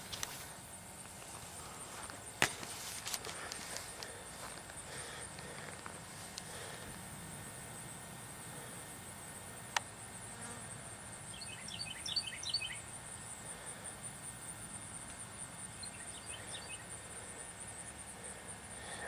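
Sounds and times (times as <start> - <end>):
high insect trill: 0.0 - 19.0.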